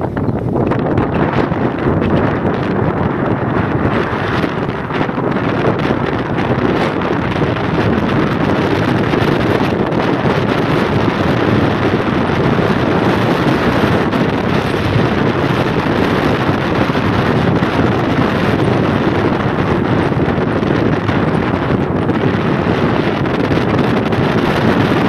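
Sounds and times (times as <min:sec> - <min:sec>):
car running noise: 0:00.0 - 0:25.0
wind rumble on microphone: 0:00.0 - 0:25.0.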